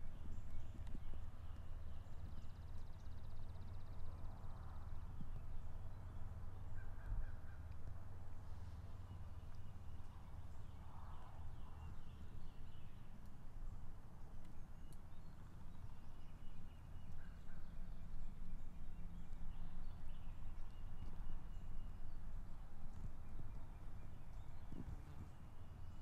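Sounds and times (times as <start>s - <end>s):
low wind rumble: 0.0s - 26.0s.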